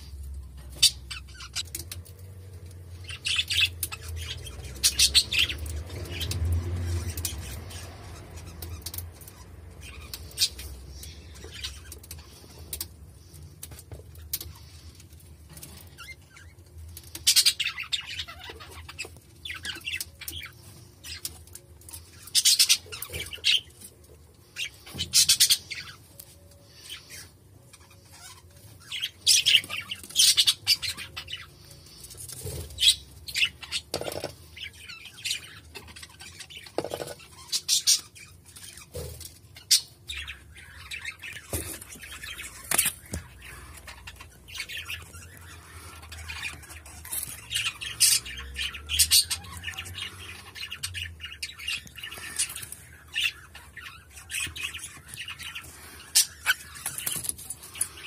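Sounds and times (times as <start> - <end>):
cockatiels squawking and chirping: 0.0 - 58.0.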